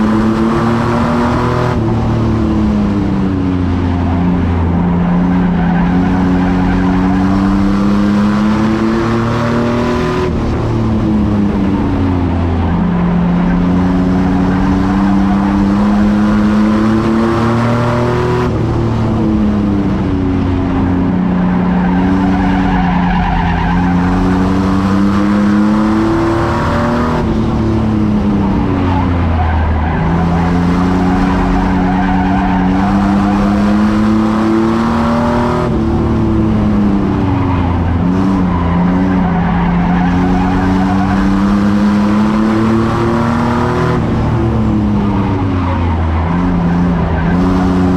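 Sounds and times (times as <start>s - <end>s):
racing truck engine revving: 0.0s - 47.9s.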